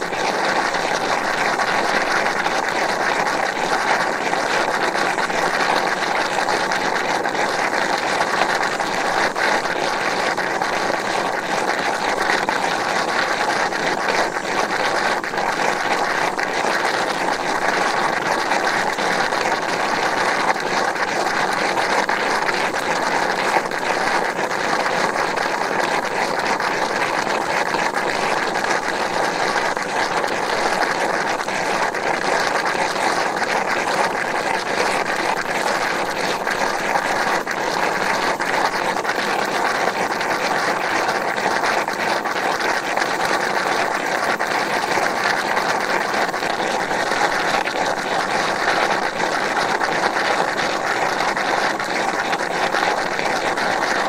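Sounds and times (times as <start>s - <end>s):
hot spring bubbling: 0.0s - 54.0s.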